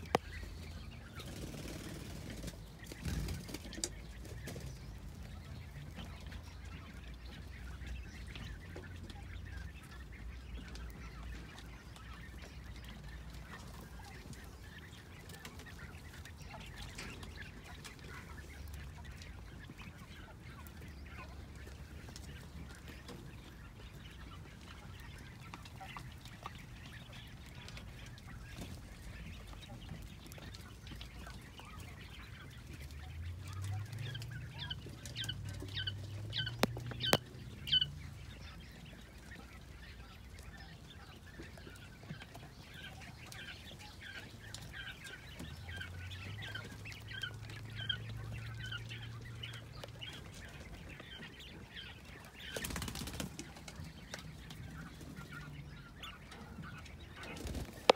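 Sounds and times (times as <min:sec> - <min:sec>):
young quail chirping: 0:00.0 - 0:57.9.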